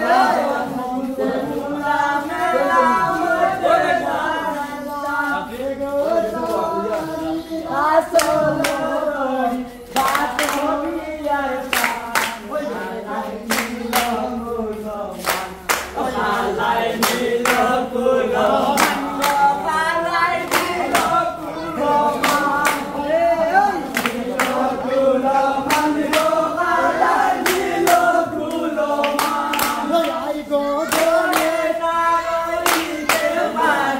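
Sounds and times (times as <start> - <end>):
group of voices singing: 0.0 - 33.9
rhythmic hand claps: 0.0 - 33.9.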